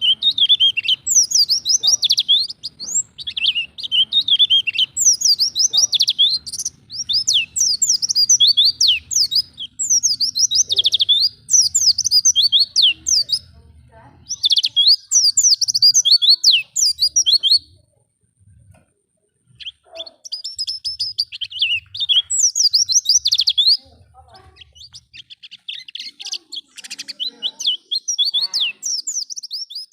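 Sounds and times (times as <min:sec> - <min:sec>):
bird twittering chirps and trills: 0:00.0 - 0:29.9.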